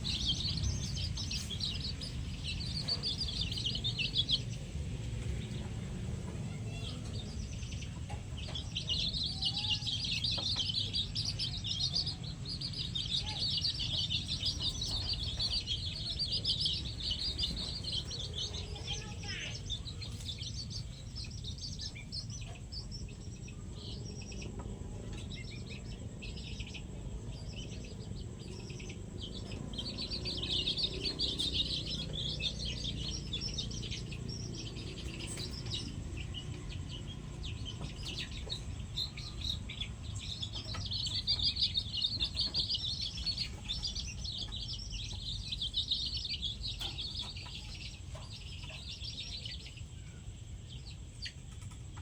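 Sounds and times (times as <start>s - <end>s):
low background rumble: 0.0s - 52.0s
small birds chirping: 0.0s - 52.0s.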